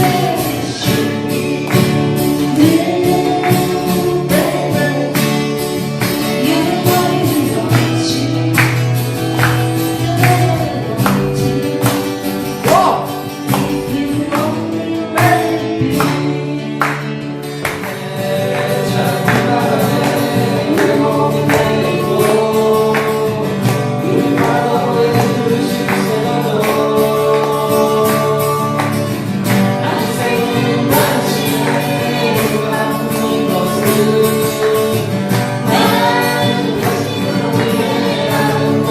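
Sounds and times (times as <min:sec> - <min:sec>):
group singing: 0:00.0 - 0:38.9
strummed acoustic guitars: 0:00.0 - 0:38.9.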